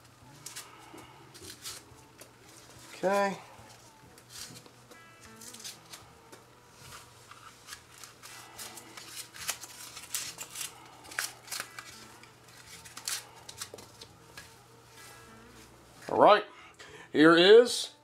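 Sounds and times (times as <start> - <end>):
bubble wrap crinkling: 0.3 - 6.0, 6.7 - 15.7.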